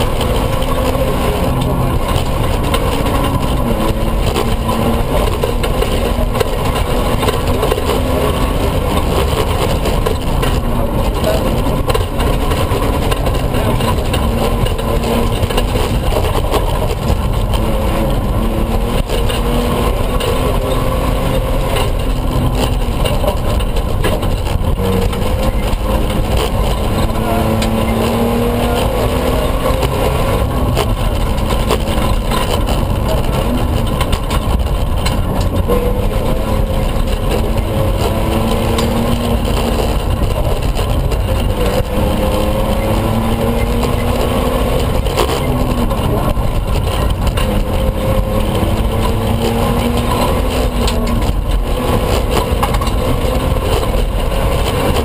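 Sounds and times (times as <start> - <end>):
truck engine revving: 0.0 - 55.0
tyres rumbling on dirt road: 0.0 - 55.0.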